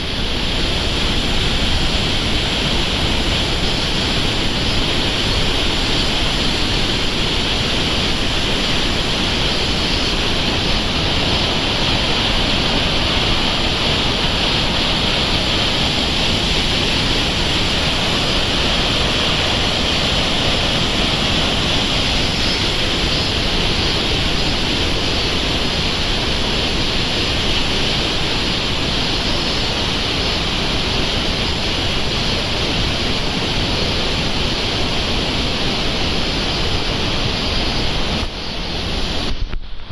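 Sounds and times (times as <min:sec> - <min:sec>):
loud waterfall rush: 0:00.0 - 0:39.9.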